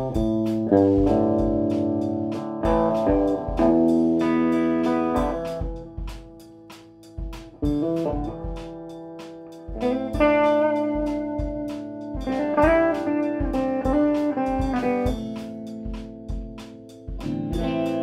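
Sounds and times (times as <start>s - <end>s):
drum hits: 0.0s - 18.0s
electric guitar chords: 0.0s - 18.0s.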